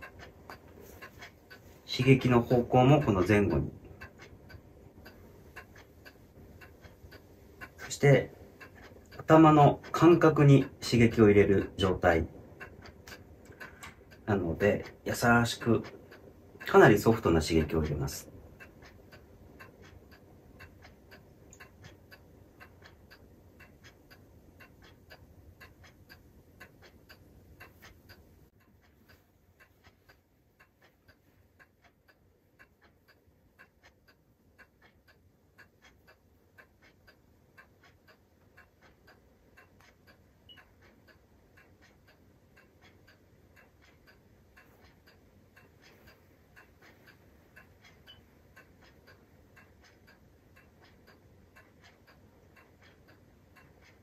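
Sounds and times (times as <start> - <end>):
faint regular ticking: 0.0 - 54.0
low background hum: 0.0 - 54.0.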